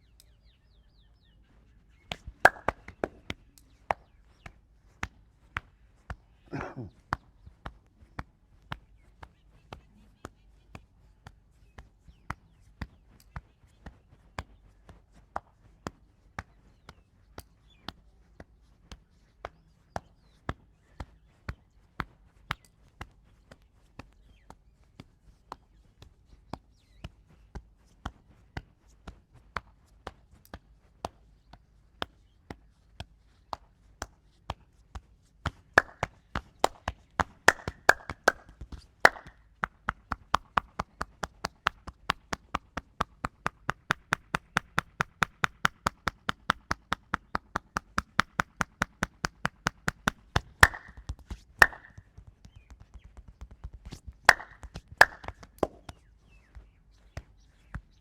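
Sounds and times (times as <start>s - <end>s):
hands slapping body in rhythm: 1.9s - 58.0s.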